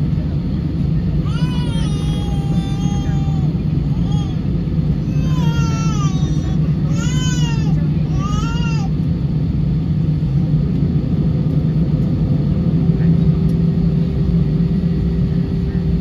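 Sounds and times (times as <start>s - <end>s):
aircraft cabin rumble: 0.0s - 16.0s
steady hum: 0.0s - 16.0s.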